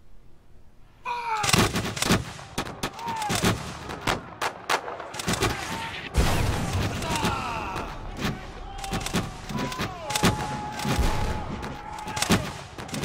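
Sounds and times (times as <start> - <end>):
musket shots cracking: 1.4 - 13.0.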